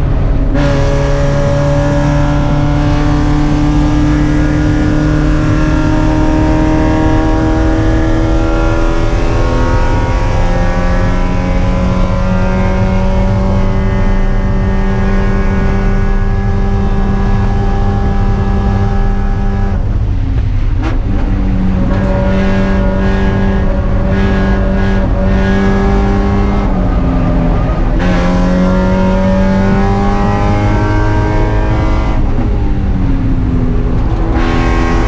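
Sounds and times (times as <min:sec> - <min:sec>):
race car engine running hard: 0:00.0 - 0:35.0.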